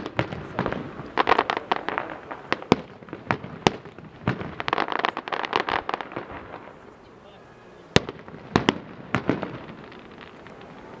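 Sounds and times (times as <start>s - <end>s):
firework shells bursting: 0.0s - 7.0s, 7.9s - 11.0s.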